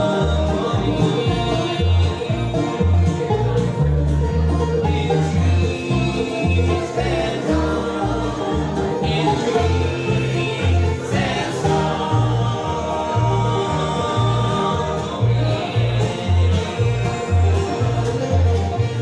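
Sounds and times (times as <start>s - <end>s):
bluegrass string band playing: 0.0s - 19.0s
upright bass plucking low notes: 0.0s - 19.0s.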